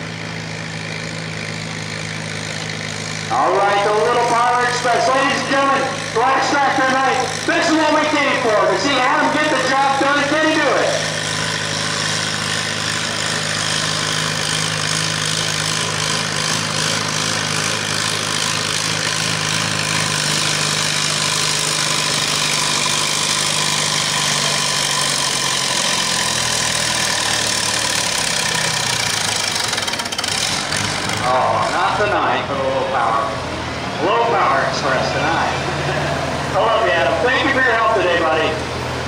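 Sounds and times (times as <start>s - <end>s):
tractor engine running hard: 0.0s - 39.0s.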